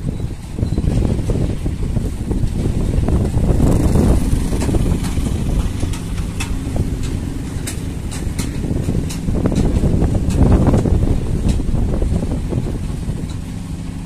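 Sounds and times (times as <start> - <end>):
diesel truck engine idling: 0.0 - 14.0
wind buffeting microphone: 0.0 - 14.0.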